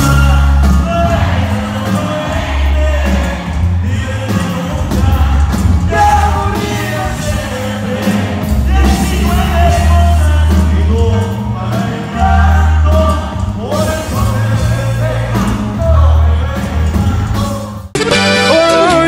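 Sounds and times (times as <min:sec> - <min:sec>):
live band music: 0:00.0 - 0:19.0
person singing: 0:00.0 - 0:19.0
tuba bass line: 0:00.0 - 0:19.0.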